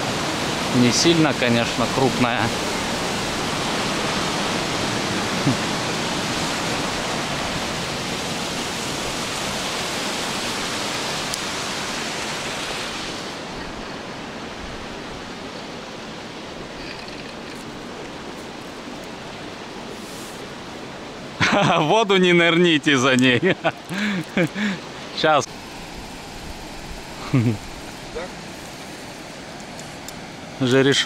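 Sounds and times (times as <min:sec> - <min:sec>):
flowing water rushing: 0:00.0 - 0:31.0.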